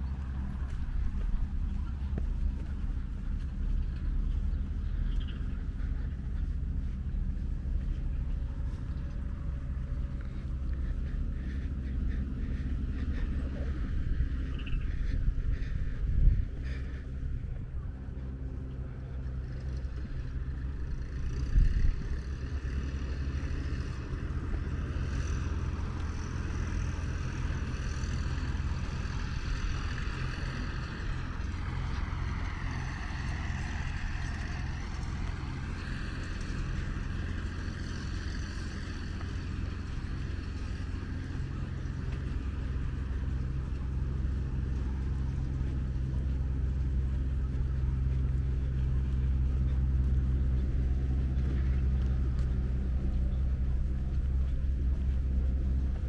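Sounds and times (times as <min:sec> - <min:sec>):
engine whine: 0:00.0 - 0:56.0
vehicle engine humming: 0:00.0 - 0:56.0.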